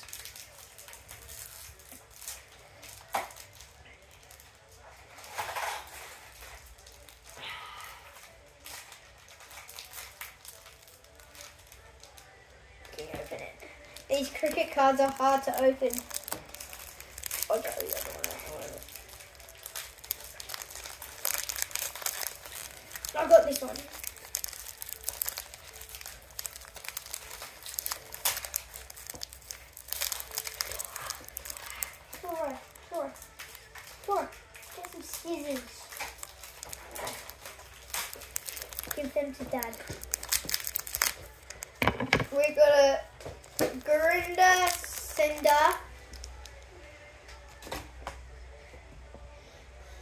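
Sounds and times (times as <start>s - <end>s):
plastic wrapper crinkling: 0.0s - 7.4s, 8.2s - 46.6s.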